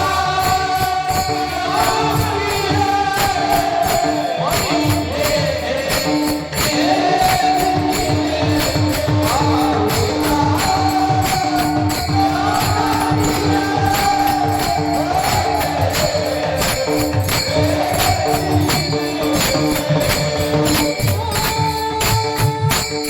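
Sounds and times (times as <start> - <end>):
drum strokes: 0.0 - 23.0
jingling metal percussion: 0.0 - 23.0.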